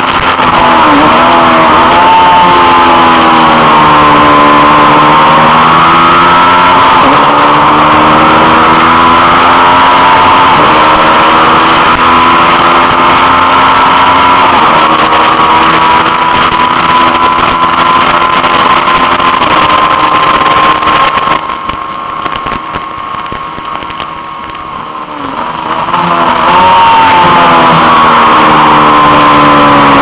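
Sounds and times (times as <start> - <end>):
race motorcycle engine revving: 0.0 - 30.0.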